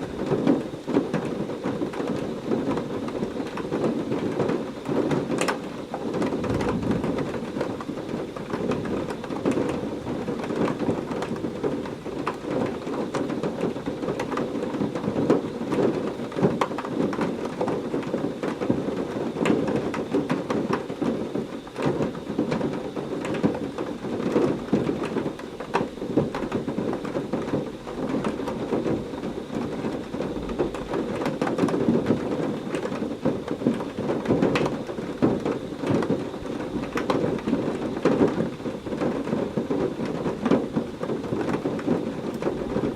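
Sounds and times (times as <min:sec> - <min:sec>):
heavy rain falling: 0:00.0 - 0:42.9
low rumble of thunder: 0:06.0 - 0:42.9.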